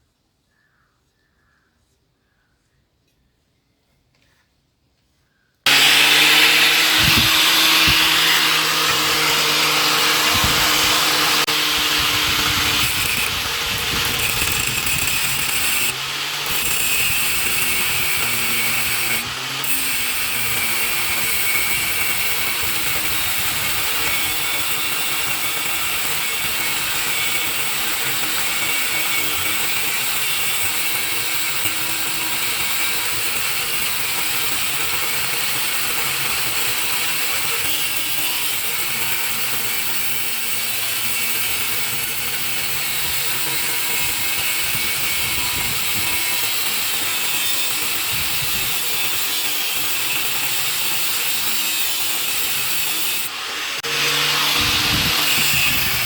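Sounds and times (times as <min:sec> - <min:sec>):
electric power tool running: 0:05.7 - 0:56.0.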